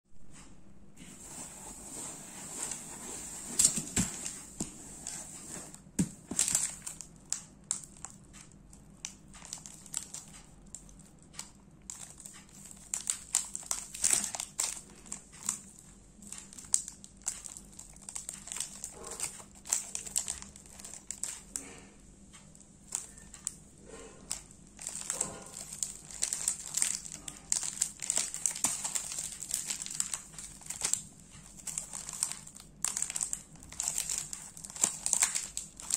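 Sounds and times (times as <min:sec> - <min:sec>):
plastic wrapper crinkling: 0:02.6 - 0:21.8, 0:22.6 - 0:35.9.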